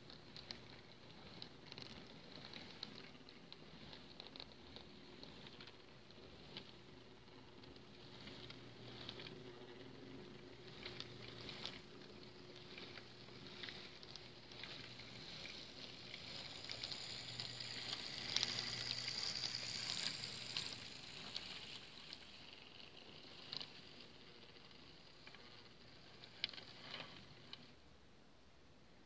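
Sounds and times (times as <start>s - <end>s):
model train wheels clicking over rail joints: 0.0s - 27.8s
low electric motor hum: 0.0s - 28.2s.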